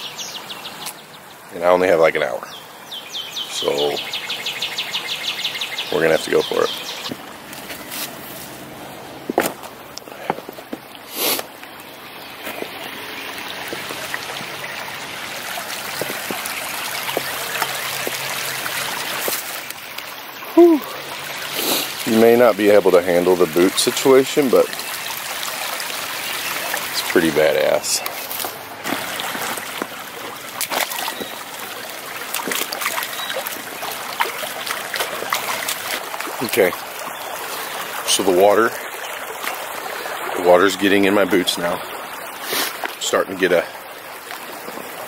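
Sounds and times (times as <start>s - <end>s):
creek water rushing: 0.0s - 45.0s.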